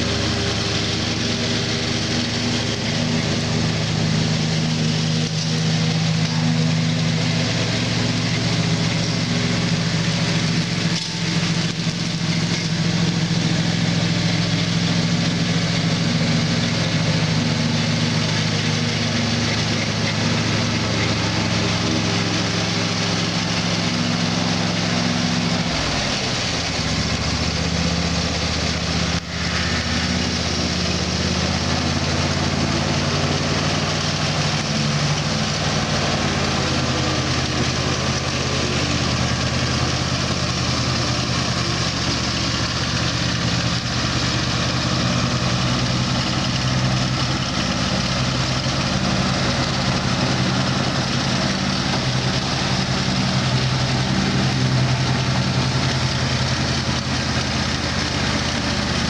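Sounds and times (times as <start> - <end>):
riding lawn mower engine running: 0.0 - 59.0.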